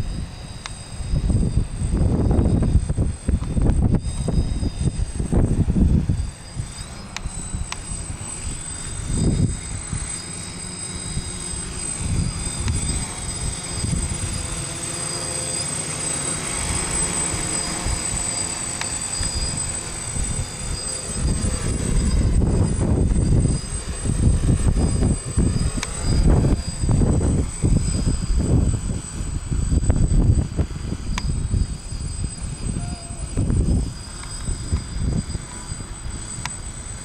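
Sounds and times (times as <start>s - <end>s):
drone motors whining: 0.0s - 37.0s
wind gusts on microphone: 0.0s - 37.0s.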